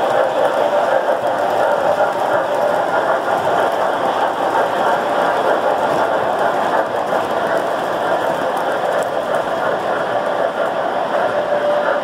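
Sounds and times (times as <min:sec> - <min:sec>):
model train wheels rattling: 0:00.0 - 0:12.0.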